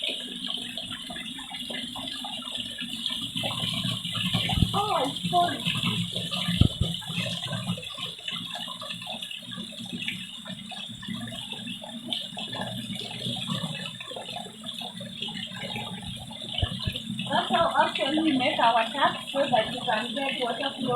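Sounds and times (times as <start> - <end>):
water trickling into a container: 0.0 - 20.9.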